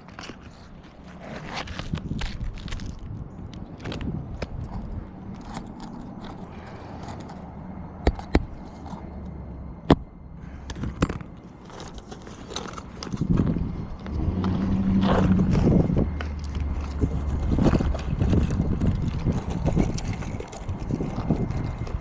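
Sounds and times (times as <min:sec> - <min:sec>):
shingles scraping and rustling: 0:00.0 - 0:09.2, 0:10.4 - 0:22.0
low steady hum: 0:00.0 - 0:22.0.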